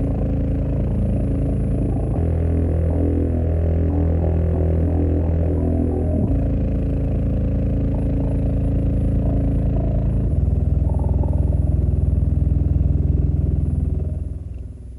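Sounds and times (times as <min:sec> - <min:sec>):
deep bass from subwoofer: 0:00.0 - 0:14.9.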